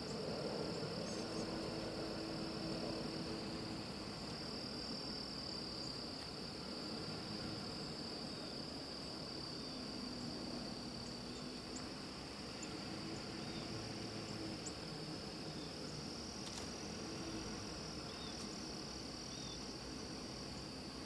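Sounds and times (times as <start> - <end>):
insects singing: 0.0 - 21.0.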